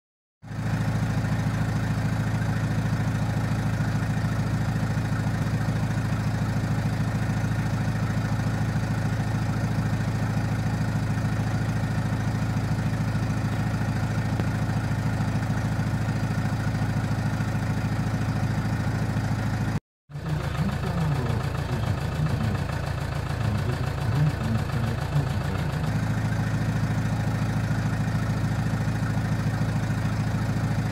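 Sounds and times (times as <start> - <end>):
diesel engine idling: 0.5 - 30.9.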